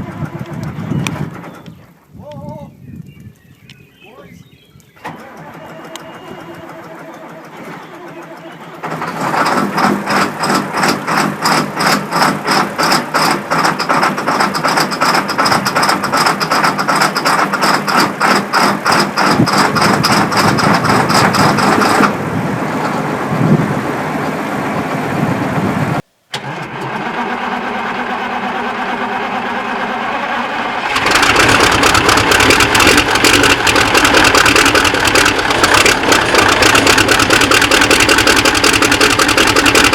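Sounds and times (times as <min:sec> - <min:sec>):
diesel engines starting and running: 0:00.0 - 0:02.0, 0:05.0 - 0:39.9.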